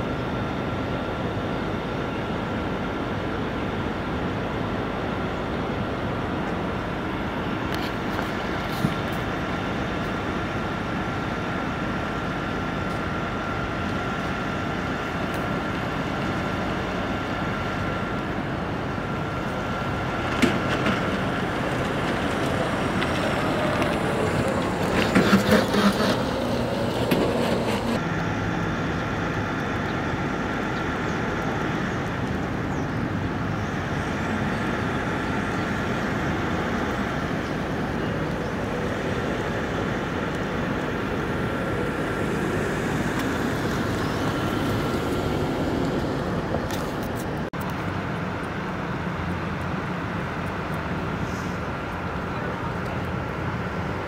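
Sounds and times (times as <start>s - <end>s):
traffic noise: 0.0s - 54.0s.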